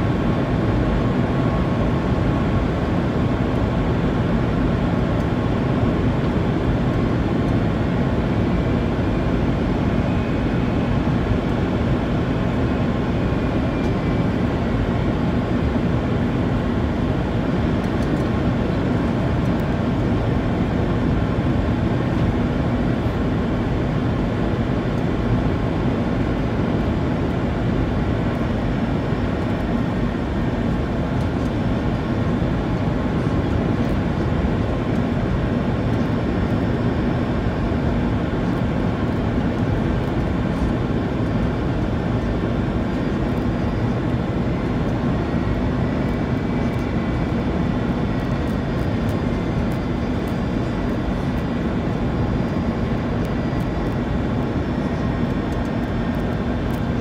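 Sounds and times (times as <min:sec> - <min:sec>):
engines and airflow rushing: 0:00.0 - 0:57.0.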